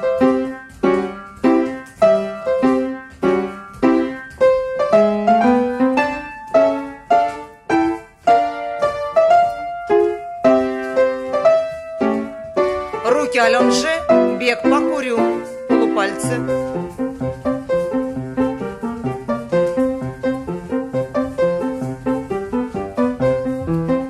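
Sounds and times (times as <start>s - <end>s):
lively piano accompaniment: 0.0s - 24.0s.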